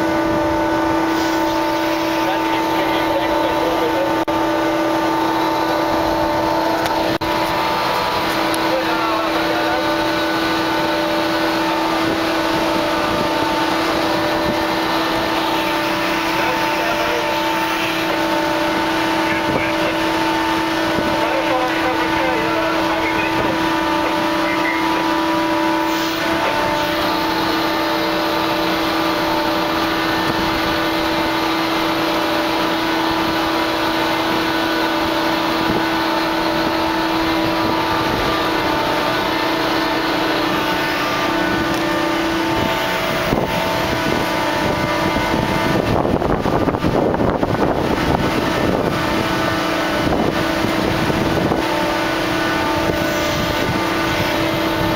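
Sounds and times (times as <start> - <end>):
machinery hum with held tones: 0.0 - 54.9
wind buffeting microphone: 4.4 - 25.8, 26.6 - 54.9.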